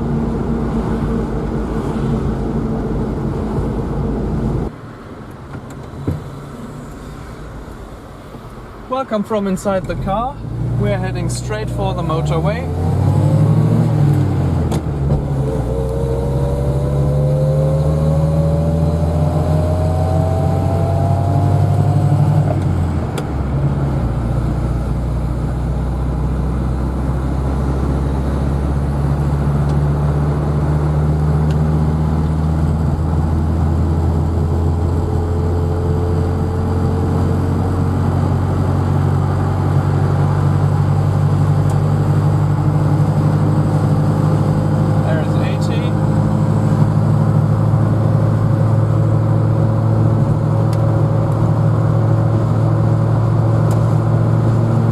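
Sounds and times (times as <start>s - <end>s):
car engine running: 0.0s - 54.9s.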